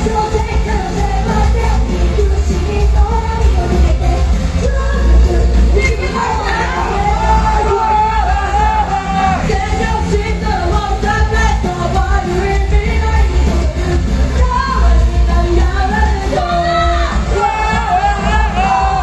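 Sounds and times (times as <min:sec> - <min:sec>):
live pop-rock music with singing: 0:00.0 - 0:19.0.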